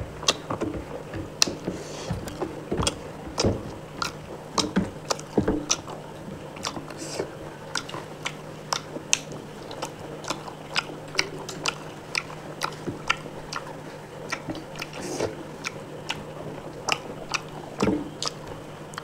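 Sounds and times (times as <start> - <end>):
person chewing crunchy food: 0.1 - 19.0.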